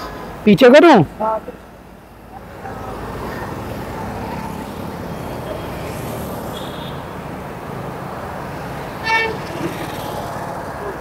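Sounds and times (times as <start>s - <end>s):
motor vehicle rumble: 1.1s - 11.0s.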